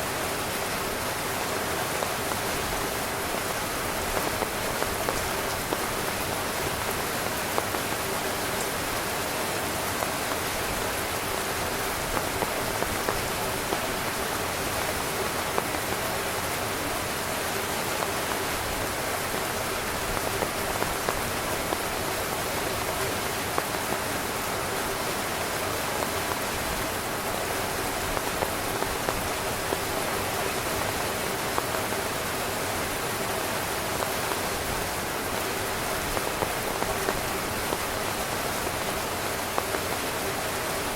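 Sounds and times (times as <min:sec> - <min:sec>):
heavy rain drumming on a tent: 0:00.0 - 0:40.9.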